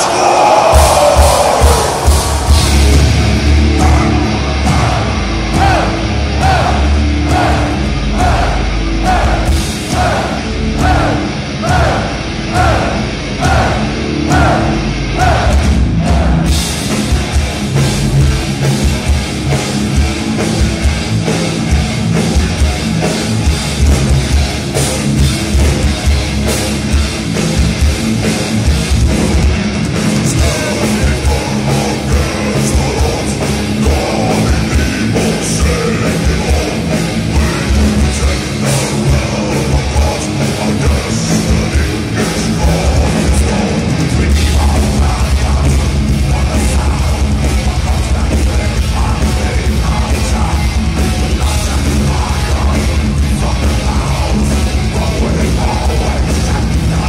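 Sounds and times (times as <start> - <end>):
heavy metal band playing live: 0.0 - 57.0.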